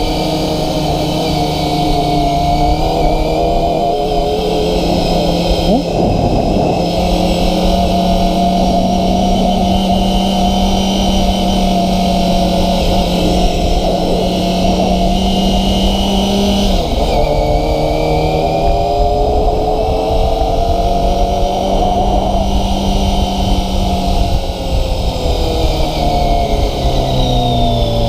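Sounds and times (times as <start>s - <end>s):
motorcycle engine running: 0.0s - 28.0s
wind rushing: 2.0s - 28.0s.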